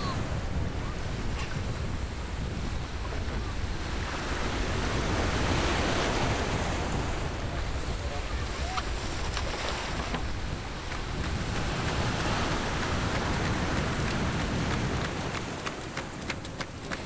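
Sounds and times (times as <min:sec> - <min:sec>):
water lapping around a boat: 0:00.0 - 0:17.0
wind buffeting microphone: 0:00.0 - 0:17.0.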